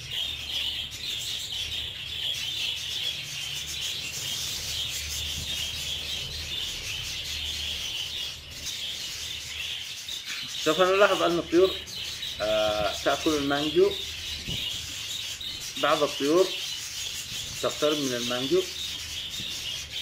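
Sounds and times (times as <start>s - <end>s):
budgerigars chattering and warbling: 0.0s - 20.0s.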